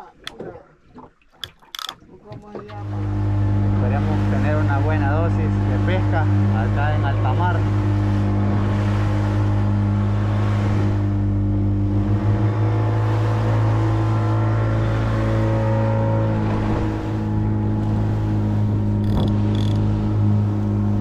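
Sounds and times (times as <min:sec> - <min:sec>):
water rushing along hull: 0:00.0 - 0:21.0
boat engine humming: 0:01.2 - 0:21.0.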